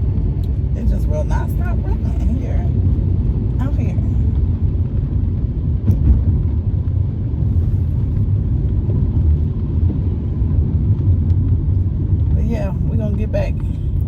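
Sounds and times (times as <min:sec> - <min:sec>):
car driving on wet road: 0:00.0 - 0:14.0.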